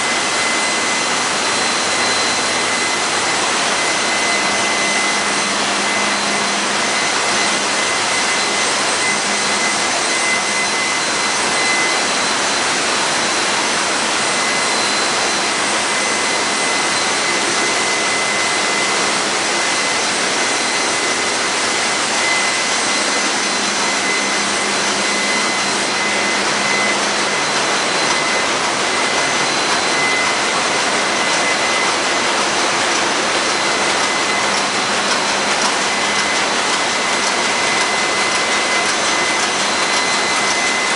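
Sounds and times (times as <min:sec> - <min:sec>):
engine room machinery noise: 0:00.0 - 0:40.9
high whines: 0:00.0 - 0:40.9.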